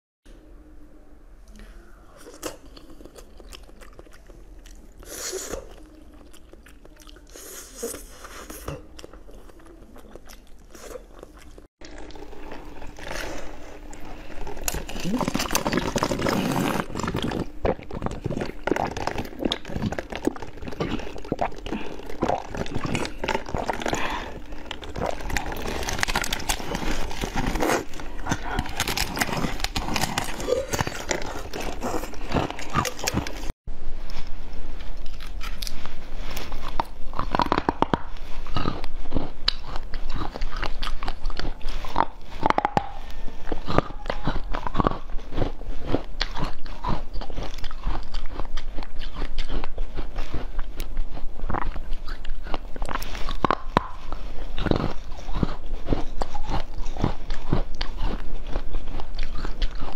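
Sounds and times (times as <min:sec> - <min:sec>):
crunching and chewing food: 0:02.2 - 0:59.9
strawberries bitten and chewed: 0:02.2 - 0:59.9.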